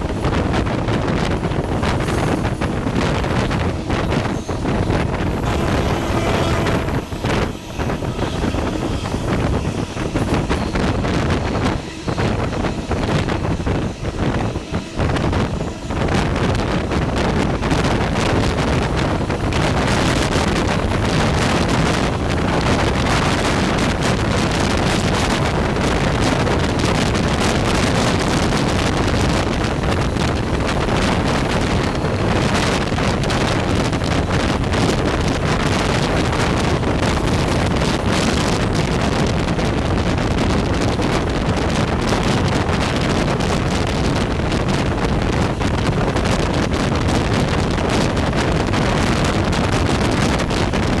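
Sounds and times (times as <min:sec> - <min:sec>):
train rushing at speed: 0:00.0 - 0:51.0
wind buffeting microphone: 0:00.0 - 0:51.0.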